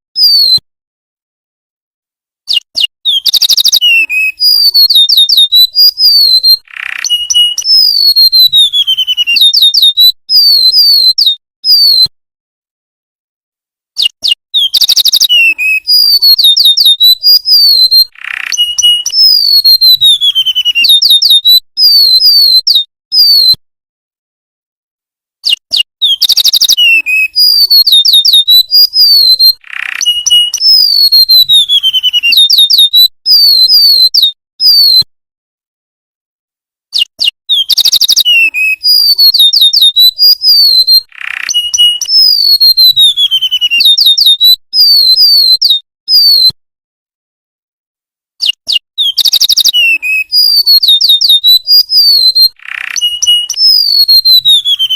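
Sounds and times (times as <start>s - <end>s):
bird singing high whistled notes: 0.2s - 0.6s, 2.5s - 12.1s, 14.0s - 23.6s, 25.4s - 35.1s, 37.0s - 46.6s, 48.4s - 54.9s.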